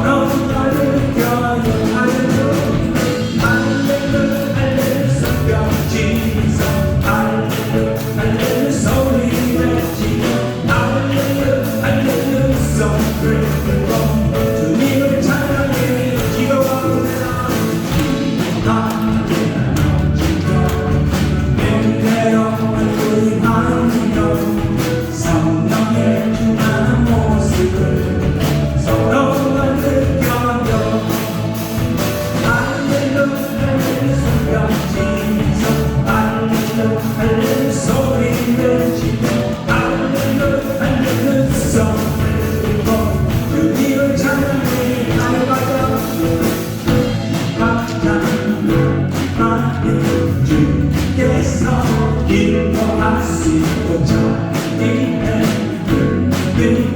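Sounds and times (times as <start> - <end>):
band drum beat: 0.0 - 56.9
people singing: 0.0 - 56.9.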